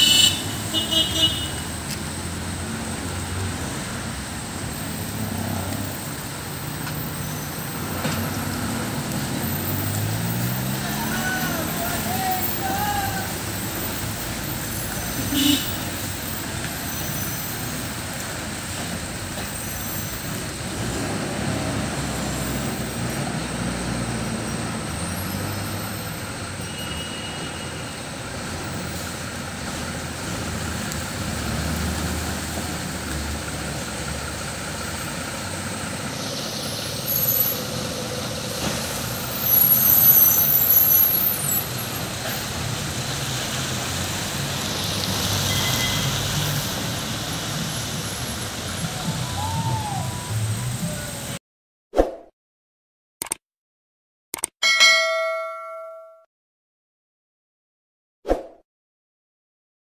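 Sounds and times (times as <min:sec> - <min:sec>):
diesel engines rumbling at low speed: 0:00.0 - 0:51.4.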